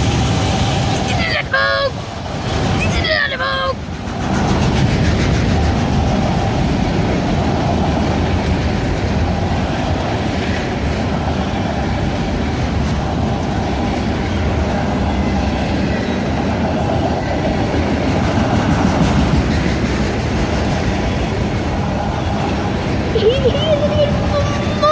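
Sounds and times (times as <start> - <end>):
train rumbling past: 0.0 - 24.9.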